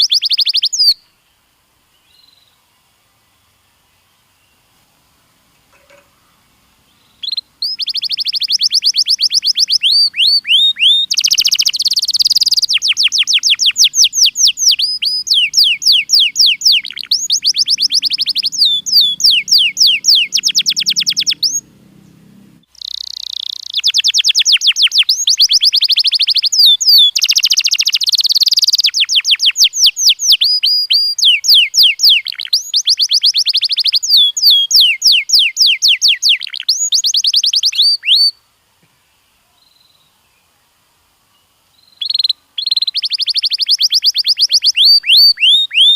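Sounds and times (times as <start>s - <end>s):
canary singing trills: 0.0s - 1.1s, 5.7s - 38.4s, 41.4s - 45.9s.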